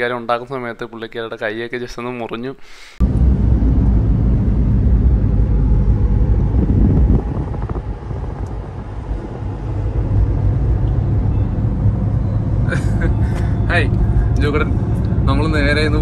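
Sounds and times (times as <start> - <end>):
car road noise rumble: 3.0 - 16.0.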